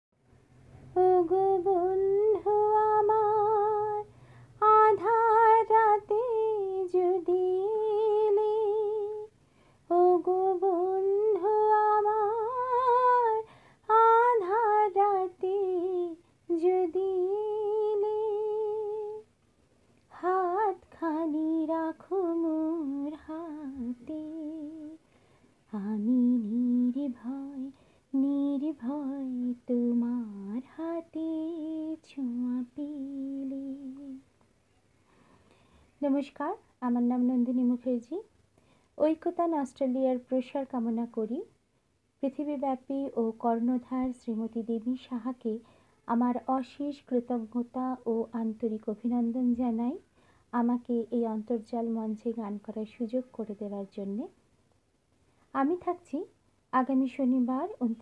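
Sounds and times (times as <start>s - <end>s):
woman singing unaccompanied: 0.8s - 19.4s, 20.0s - 34.3s, 36.0s - 38.4s, 39.0s - 41.6s, 42.2s - 54.4s, 55.5s - 58.0s.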